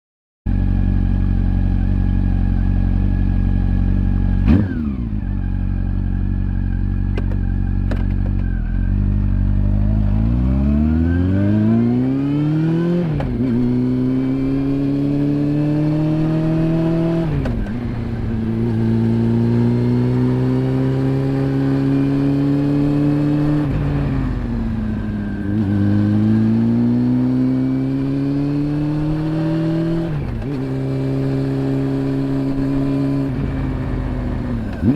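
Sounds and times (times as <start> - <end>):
motorcycle engine revving: 0.5 - 34.9.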